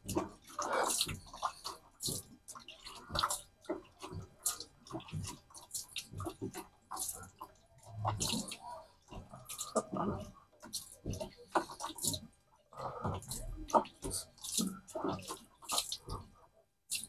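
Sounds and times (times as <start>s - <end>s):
water splashing and dripping: 0.0s - 17.0s.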